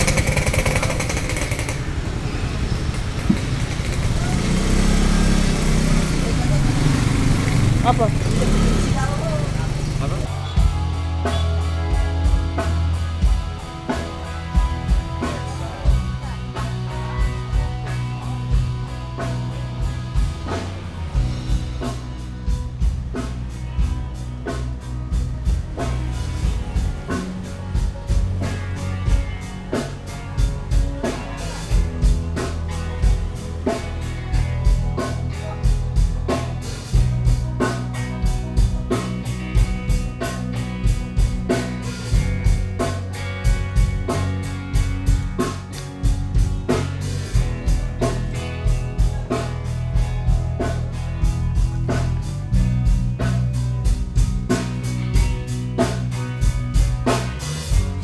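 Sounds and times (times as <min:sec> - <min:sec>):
drum kit beat: 0:00.0 - 0:01.8, 0:06.6 - 0:58.0
guitar: 0:00.0 - 0:58.0
bass line: 0:03.0 - 0:58.0.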